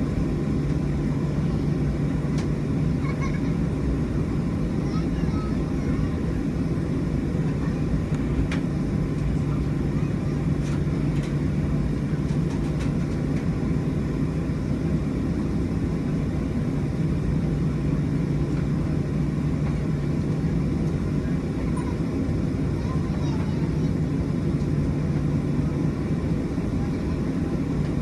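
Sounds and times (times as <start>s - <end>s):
jet engine cabin drone: 0.0s - 28.0s.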